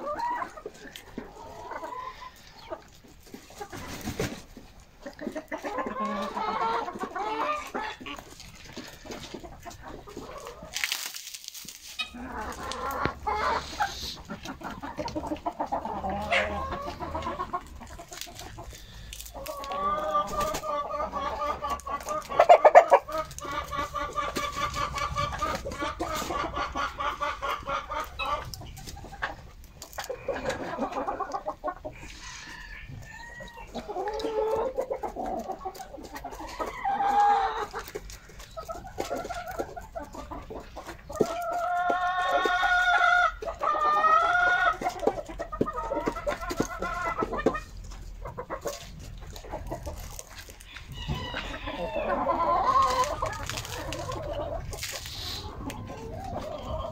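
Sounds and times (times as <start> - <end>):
chickens clucking and calling: 0.0 - 56.9.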